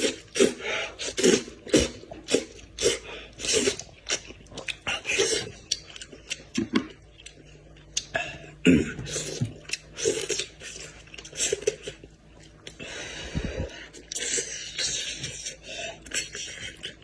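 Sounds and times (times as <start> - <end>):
person chewing meat: 0.0 - 17.0.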